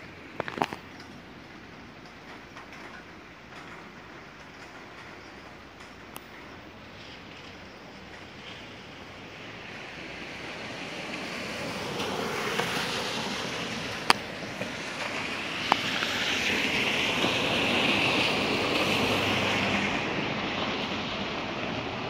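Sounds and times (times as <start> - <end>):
rain hissing on asphalt: 0.0 - 22.0
tyres swishing on wet road: 0.0 - 22.0.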